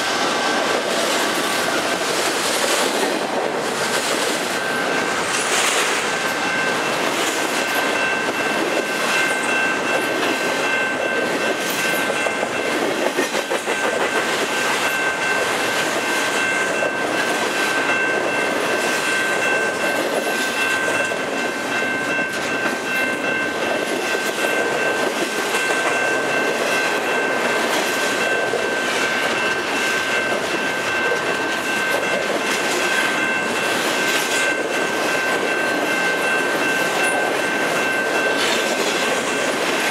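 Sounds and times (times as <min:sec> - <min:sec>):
freight train rumbling and clattering: 0:00.0 - 0:39.9
steady high-pitched tone: 0:03.0 - 0:39.9.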